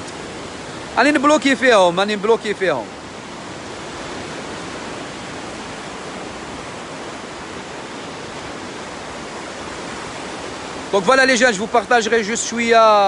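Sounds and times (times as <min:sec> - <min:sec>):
sea surf breaking: 0:00.0 - 0:13.0
wind: 0:00.0 - 0:13.0.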